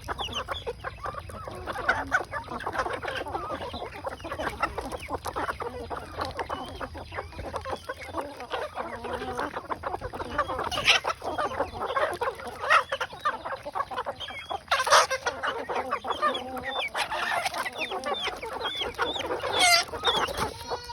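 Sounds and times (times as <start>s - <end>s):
chickens clucking: 0.0s - 20.9s.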